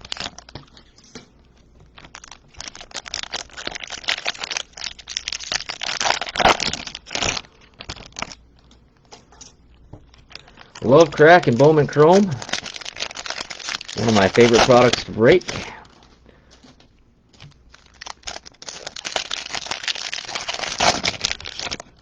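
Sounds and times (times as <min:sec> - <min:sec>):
foil wrappers crinkling: 0:00.0 - 0:22.0.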